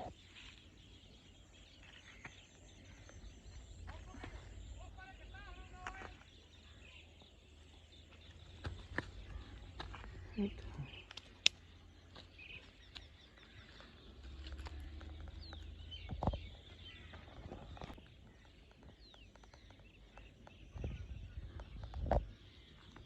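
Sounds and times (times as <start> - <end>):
birds chirping faintly: 0.0 - 23.0.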